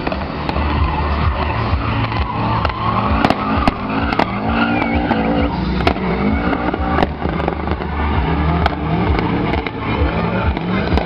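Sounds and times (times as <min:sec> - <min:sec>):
sharp cracks: 0:00.0 - 0:09.9
rally car engine revving: 0:00.0 - 0:11.0
tyres skidding: 0:00.0 - 0:11.0.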